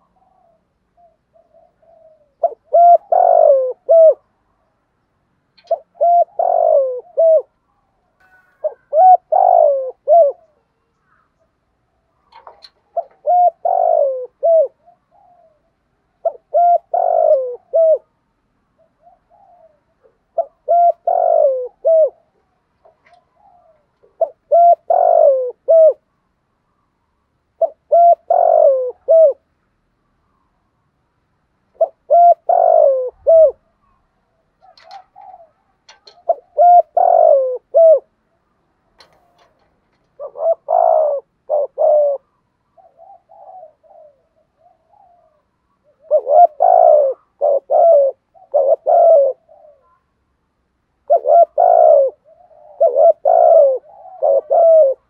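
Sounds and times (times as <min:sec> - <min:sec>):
dove cooing: 0:00.0 - 0:04.7, 0:05.6 - 0:26.2, 0:27.5 - 0:29.5, 0:31.7 - 0:50.2, 0:51.0 - 0:55.0.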